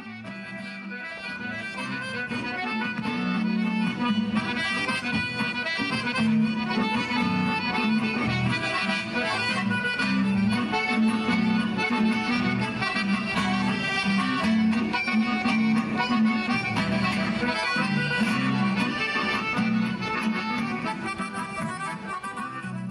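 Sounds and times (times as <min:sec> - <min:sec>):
button accordions playing folk music: 0:00.0 - 0:22.9
guitar: 0:00.0 - 0:22.9.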